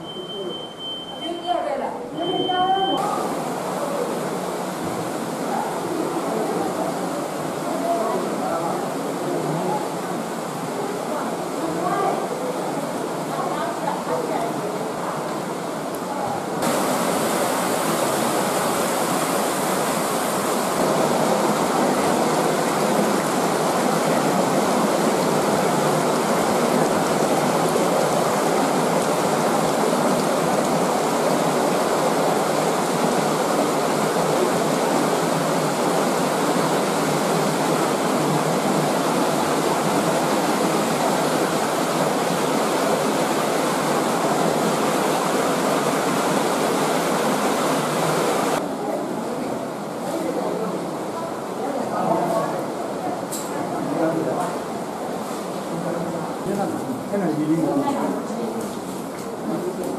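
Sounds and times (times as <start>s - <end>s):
stream of water rushing: 0.0s - 59.9s.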